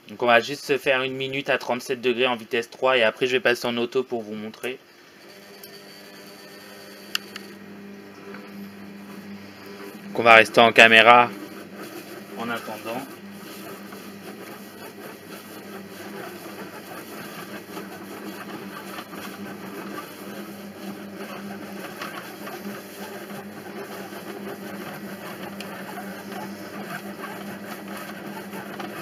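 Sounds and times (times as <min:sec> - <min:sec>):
kitchen robot humming: 0:04.2 - 0:29.0.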